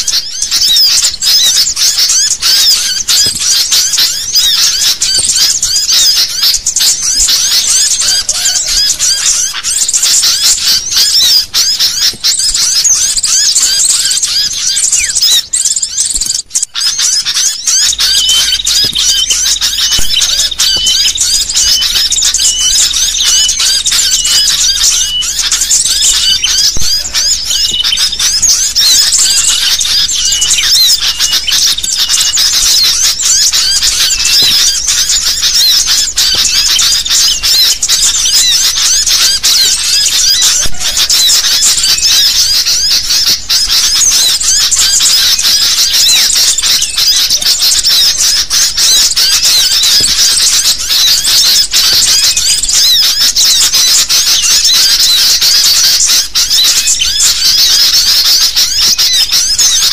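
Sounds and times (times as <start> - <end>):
bulbuls chirping in a chorus: 0.0 - 59.9.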